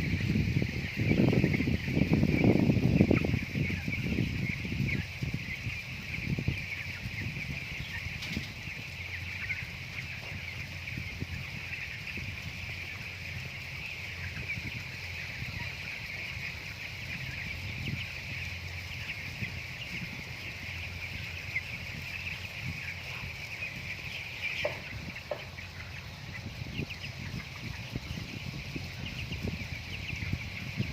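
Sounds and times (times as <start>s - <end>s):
chickens peeping and clucking: 0.0s - 30.9s.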